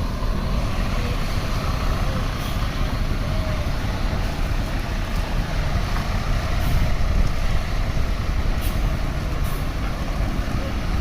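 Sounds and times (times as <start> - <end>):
heavy vehicle engine rumble: 0.0 - 11.0
road noise: 0.0 - 11.0.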